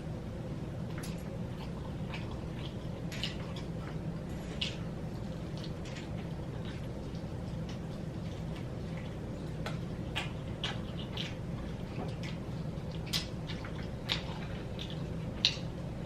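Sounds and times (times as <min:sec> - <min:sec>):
steady low hum: 0:00.0 - 0:16.0
person chewing fried chicken: 0:00.7 - 0:16.0.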